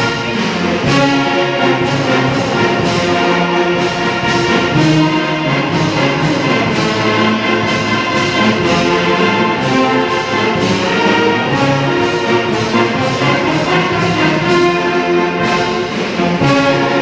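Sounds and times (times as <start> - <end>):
brass band playing a march: 0.0 - 17.0.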